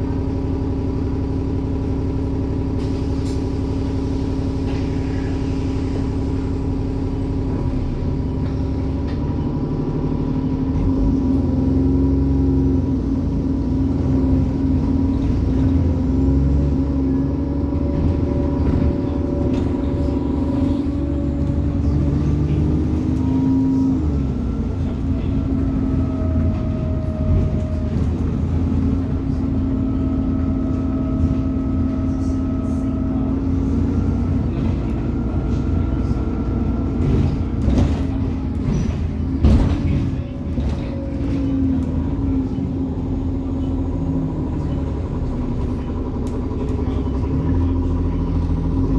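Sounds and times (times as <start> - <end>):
bus diesel engine droning: 0.0 - 48.9.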